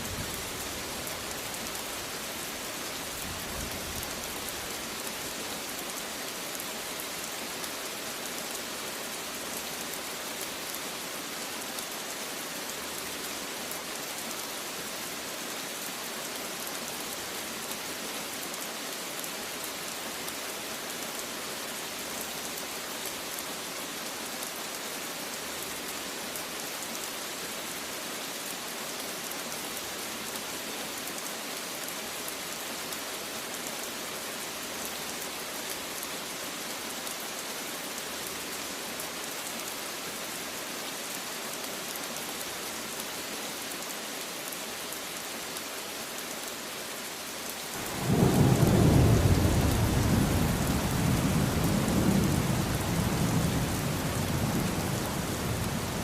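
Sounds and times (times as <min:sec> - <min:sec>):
rain falling on surface: 0:00.0 - 0:56.0.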